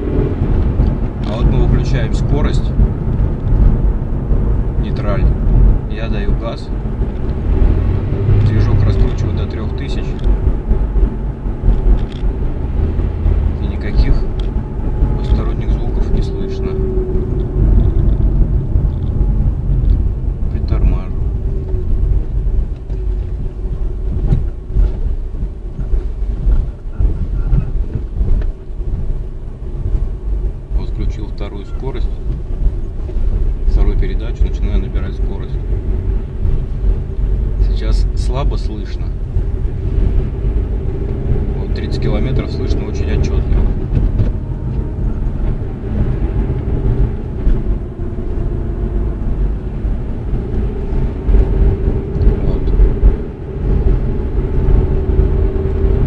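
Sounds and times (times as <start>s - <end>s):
engine and road noise rumble: 0.0s - 56.0s.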